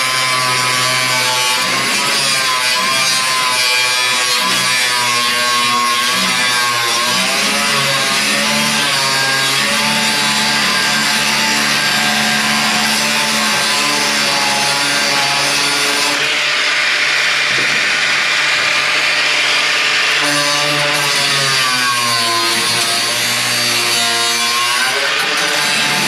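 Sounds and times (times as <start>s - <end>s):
power tool cutting metal: 0.0s - 26.0s.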